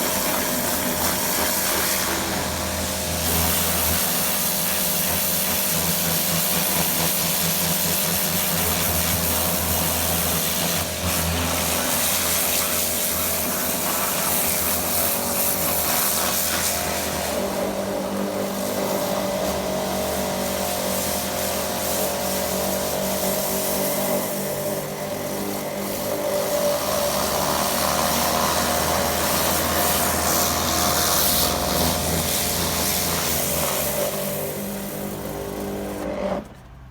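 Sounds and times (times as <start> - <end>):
high-pressure water spray hiss: 0.0 - 35.7
pressure washer motor humming: 0.0 - 36.8.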